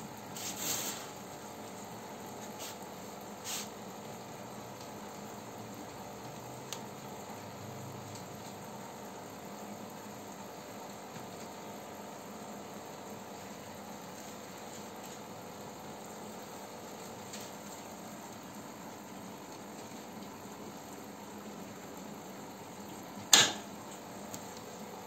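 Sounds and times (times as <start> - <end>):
aquarium aeration bubbling: 0.0 - 25.0.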